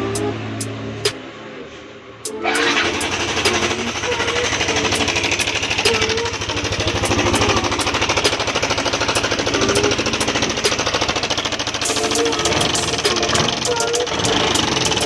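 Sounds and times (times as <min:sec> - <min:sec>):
scooter engine rough rattling: 0:02.5 - 0:15.0.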